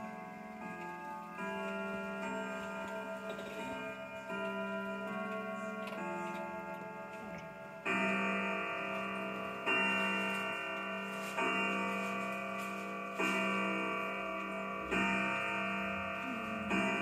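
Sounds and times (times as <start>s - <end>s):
grandfather clock striking: 0.0s - 17.0s.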